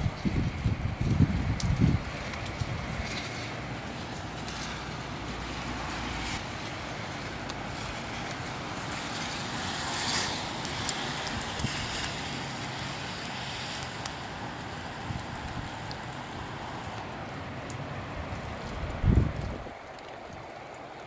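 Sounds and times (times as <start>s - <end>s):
gusty wind rushing through trees: 0.0s - 21.0s
rain falling: 0.0s - 21.0s.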